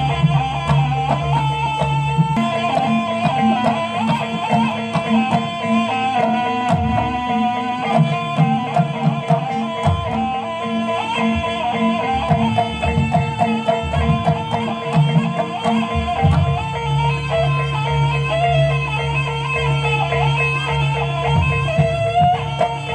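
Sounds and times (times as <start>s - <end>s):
steady held tone: 0.0s - 22.9s.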